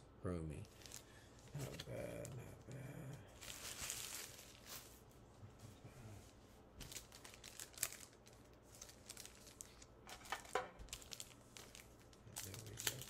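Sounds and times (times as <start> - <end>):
cards and foil wrappers crinkling: 0.6 - 5.1, 6.8 - 13.0.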